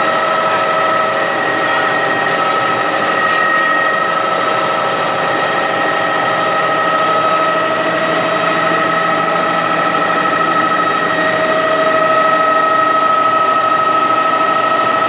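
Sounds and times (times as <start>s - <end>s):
helicopter engine and rotor drone: 0.0s - 15.0s
high whining tones: 0.0s - 15.0s.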